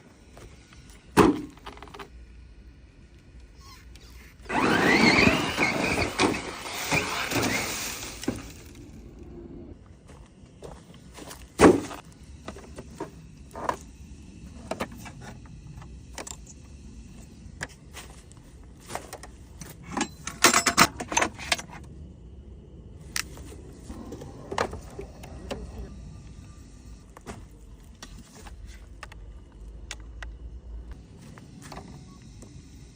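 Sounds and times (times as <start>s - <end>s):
electric motor and gears whining: 3.2s - 32.9s.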